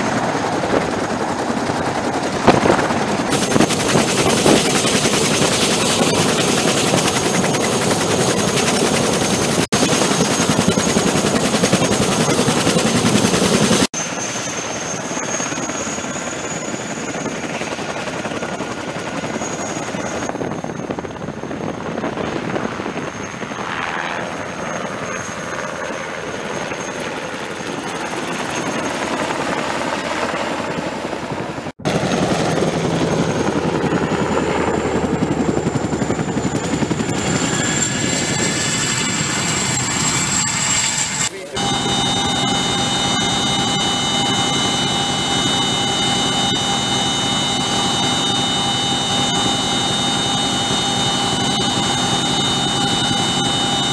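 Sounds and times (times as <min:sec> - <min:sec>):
high turbine whine: 0:00.0 - 0:29.2, 0:31.1 - 0:53.9
helicopter rotors: 0:00.0 - 0:53.9.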